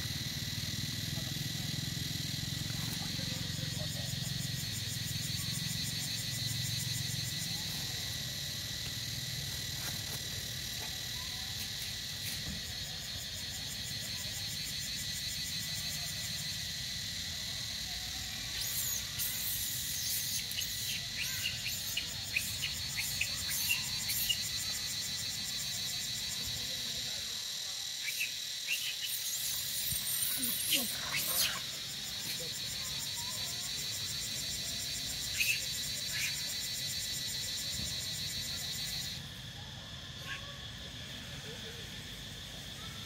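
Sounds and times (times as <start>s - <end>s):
insects buzzing: 0.0s - 43.0s.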